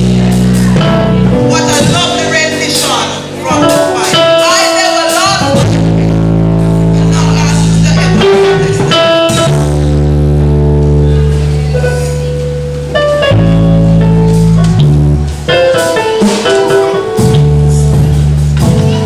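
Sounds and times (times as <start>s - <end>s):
live band music: 0.0s - 19.0s.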